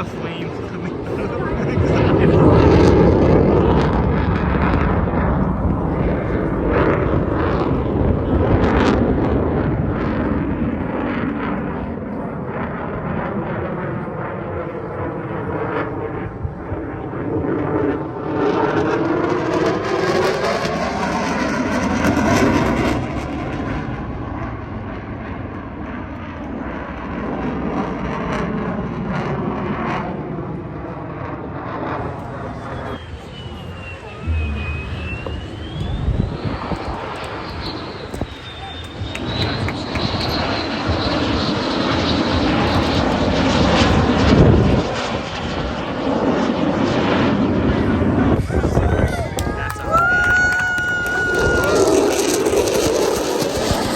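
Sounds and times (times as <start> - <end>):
military jet flying over: 0.0 - 53.9.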